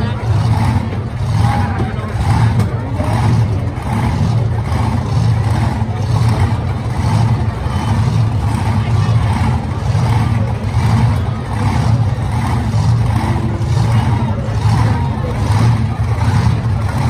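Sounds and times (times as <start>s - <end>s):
monster truck engines idling: 0.0s - 17.0s.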